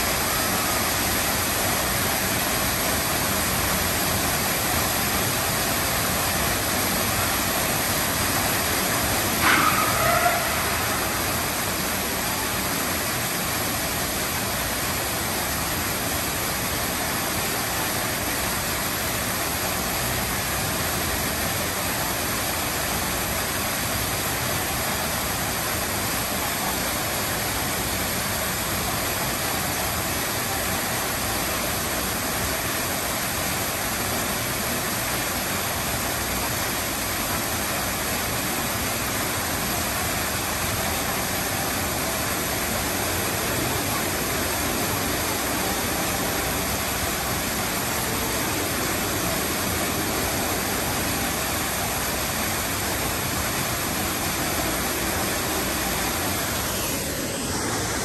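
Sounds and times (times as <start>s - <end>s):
waterfall pouring onto rocks: 0.0s - 58.0s.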